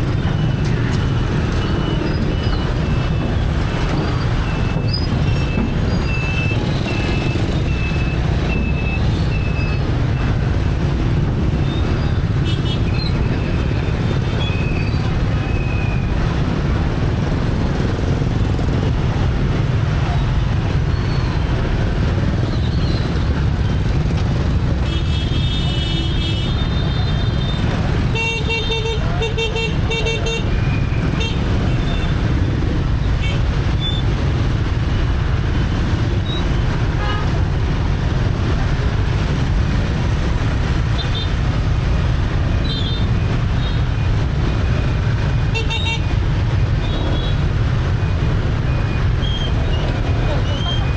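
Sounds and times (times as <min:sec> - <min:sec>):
traffic engines and road noise: 0:00.0 - 0:50.9.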